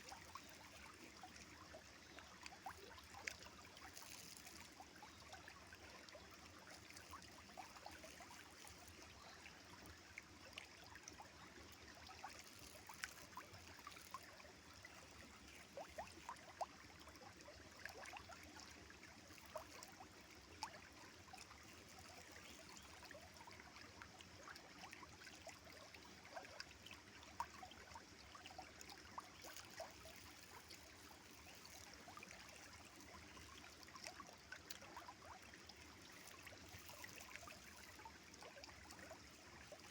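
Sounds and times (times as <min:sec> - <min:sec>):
small water splashes and gurgles: 0:00.0 - 0:39.9.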